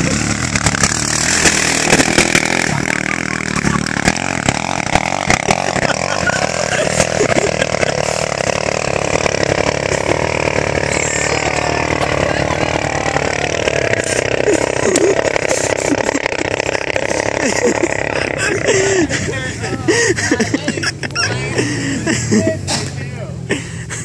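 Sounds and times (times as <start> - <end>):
atv engine at full throttle: 0.0 - 24.0.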